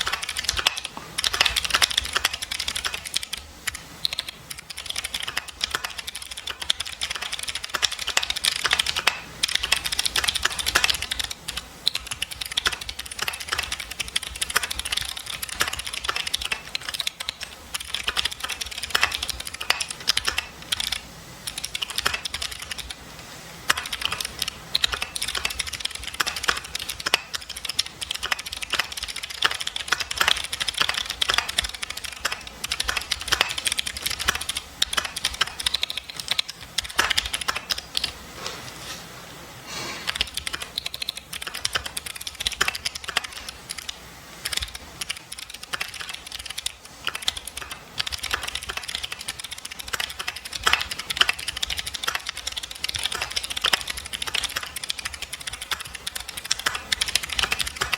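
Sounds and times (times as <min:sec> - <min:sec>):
mechanical keyboard typing: 0:00.0 - 0:38.2, 0:40.0 - 0:57.9.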